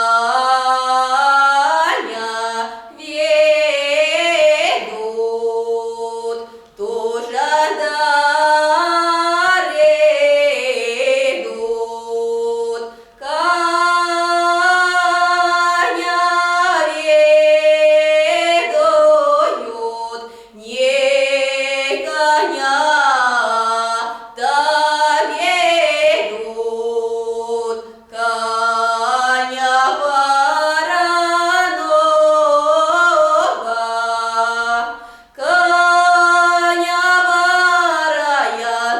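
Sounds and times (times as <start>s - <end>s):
unaccompanied folk singing: 0.0s - 38.9s.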